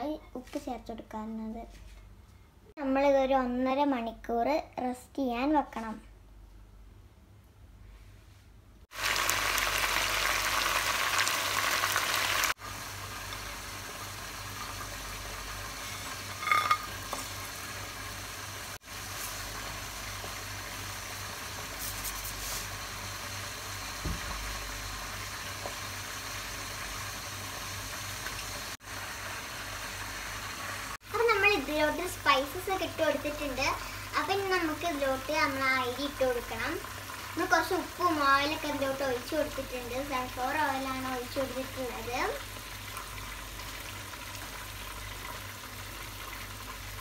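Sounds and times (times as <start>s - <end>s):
water simmering in a pan: 8.9s - 47.0s.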